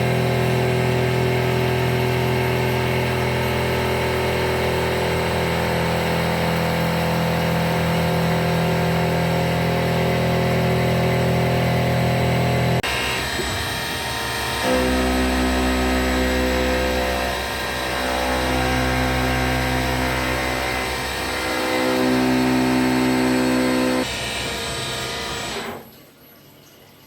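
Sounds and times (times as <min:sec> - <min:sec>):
milling machine spindle whine: 0:00.0 - 0:25.8.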